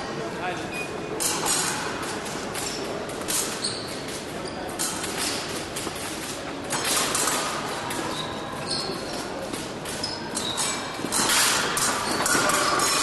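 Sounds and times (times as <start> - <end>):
large hall background noise: 0.0 - 13.0
fencing blades clicking and clashing: 1.2 - 13.0.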